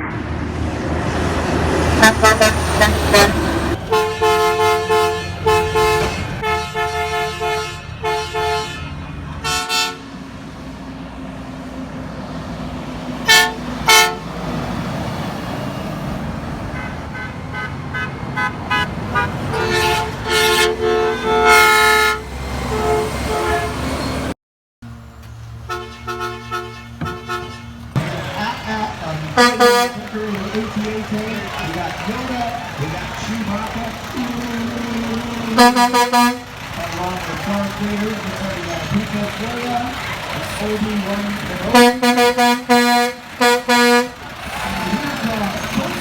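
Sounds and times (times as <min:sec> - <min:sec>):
low engine rumble: 0:00.0 - 0:46.0
truck horns honking: 0:00.0 - 0:46.0.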